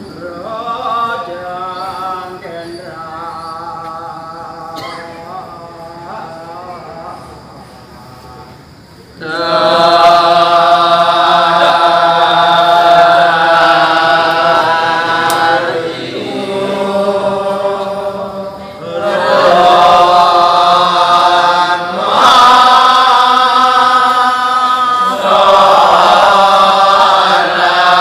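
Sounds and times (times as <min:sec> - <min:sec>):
chorus of voices chanting: 0:00.0 - 0:28.0.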